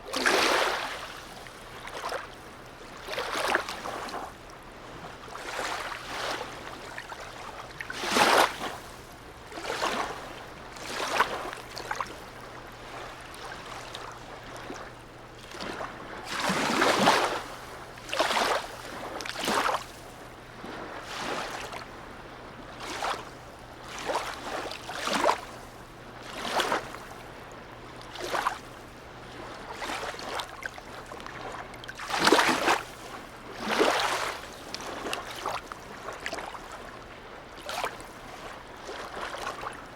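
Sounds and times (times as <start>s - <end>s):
sea water lapping and splashing: 0.0s - 39.9s.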